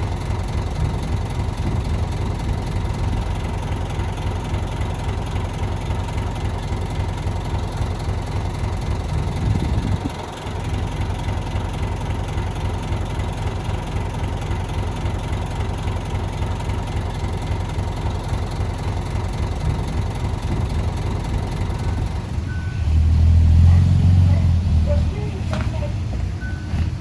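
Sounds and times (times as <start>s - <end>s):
heavy machinery diesel engine rumble: 0.0s - 27.0s.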